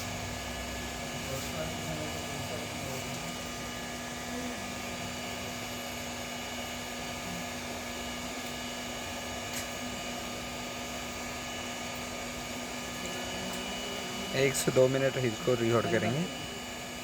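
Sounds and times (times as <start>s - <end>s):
hot air station blowing: 0.0s - 17.0s.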